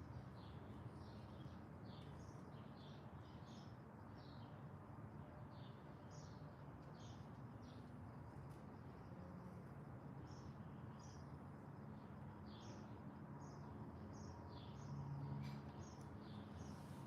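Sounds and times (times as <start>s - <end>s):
songbirds chirping: 0.0s - 9.2s, 10.0s - 17.0s.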